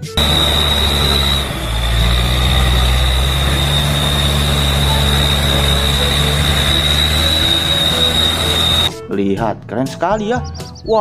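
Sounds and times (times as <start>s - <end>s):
soil tipping out: 0.0s - 8.9s
high-pitched whine: 0.0s - 9.0s
truck engine running: 0.0s - 9.0s.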